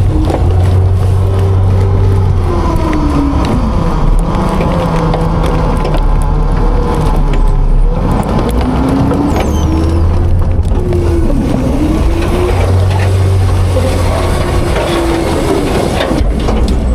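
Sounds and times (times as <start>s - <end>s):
garbage crunching: 0.0s - 16.9s
garbage truck engine revving: 0.0s - 16.9s.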